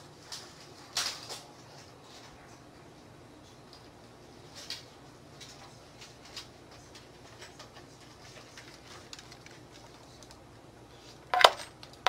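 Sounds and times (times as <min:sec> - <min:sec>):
low background noise: 0:00.0 - 0:12.0
faint clicks and rustles: 0:00.1 - 0:12.0.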